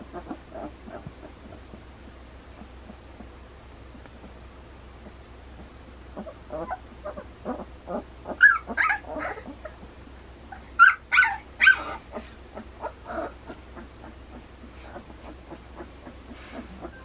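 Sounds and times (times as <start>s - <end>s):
puppies whimpering and squealing: 0.0s - 3.4s, 5.0s - 17.0s.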